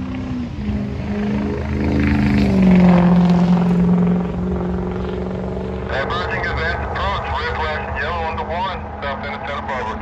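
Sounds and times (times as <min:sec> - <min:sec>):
diesel locomotive engine drone: 0:00.0 - 0:10.0.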